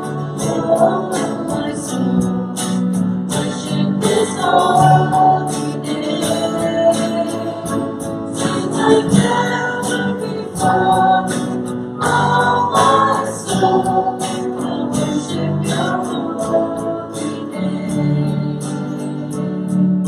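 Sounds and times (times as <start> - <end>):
strummed guitar: 0.0 - 20.0
voices singing together: 0.0 - 20.0.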